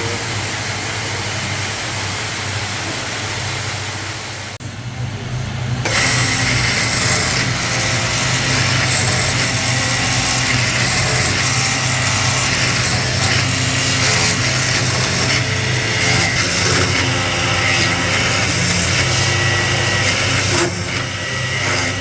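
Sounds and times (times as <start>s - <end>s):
woodworking machine whirring: 0.0s - 22.0s.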